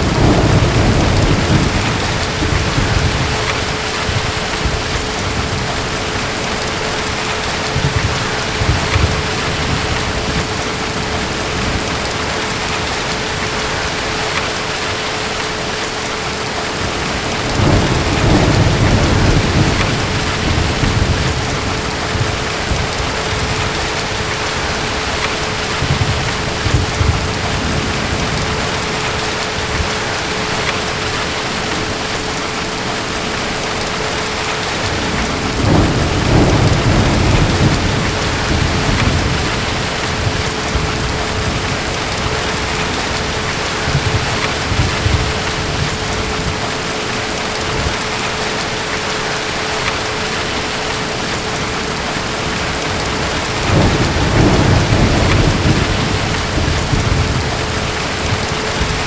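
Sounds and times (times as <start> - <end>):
distant thunder rumbling: 0.0 - 14.9, 15.7 - 48.2, 51.1 - 59.0
heavy rain: 0.0 - 59.0.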